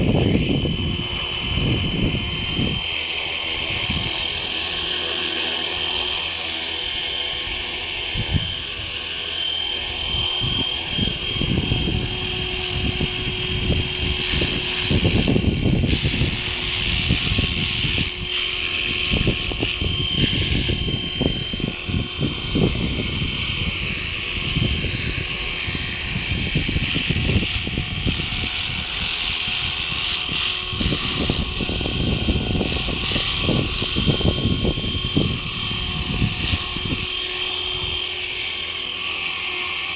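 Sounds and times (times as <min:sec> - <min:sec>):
wind buffeting microphone: 0:00.0 - 0:38.8
model helicopter hovering: 0:00.0 - 0:39.9.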